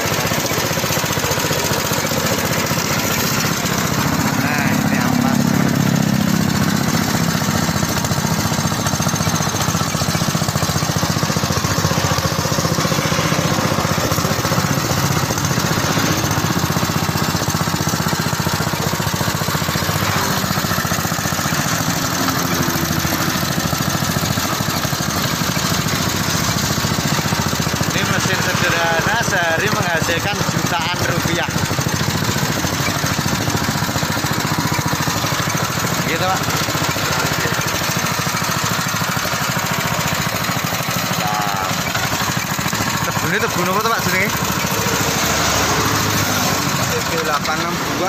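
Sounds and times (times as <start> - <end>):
rollers crushing cane stalks: 0.0 - 48.0
sugarcane press running: 0.0 - 48.0.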